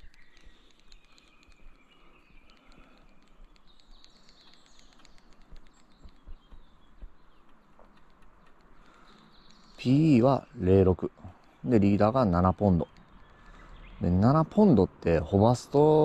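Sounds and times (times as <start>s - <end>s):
small ticks and clicks: 0.0s - 14.7s
faint bird chirps: 0.0s - 16.0s.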